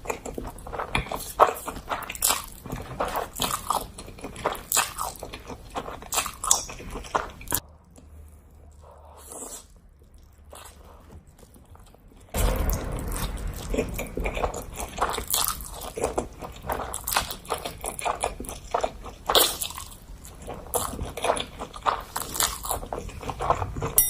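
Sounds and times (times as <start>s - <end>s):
crunchy eating: 0.0s - 24.0s.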